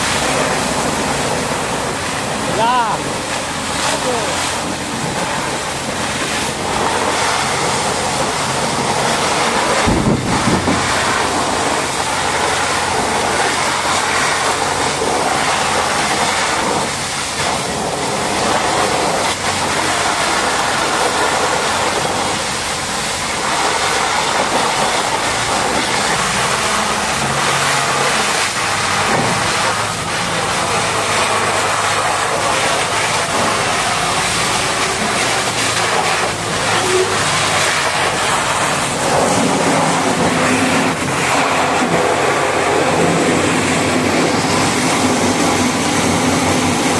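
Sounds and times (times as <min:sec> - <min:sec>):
water jet spraying on metal: 0:00.0 - 0:46.9.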